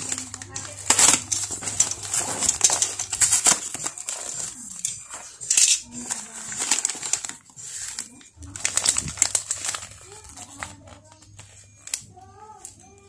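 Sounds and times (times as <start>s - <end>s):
cardboard and plastic pouches rustling: 0.0s - 13.0s.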